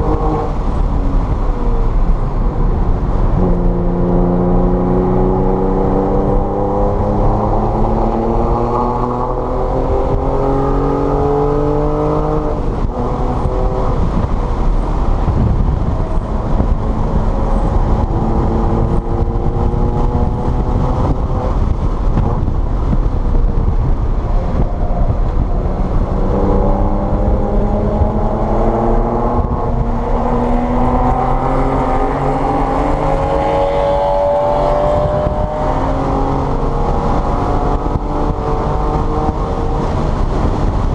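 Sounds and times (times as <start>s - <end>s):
race car engine revving: 0.0s - 40.9s.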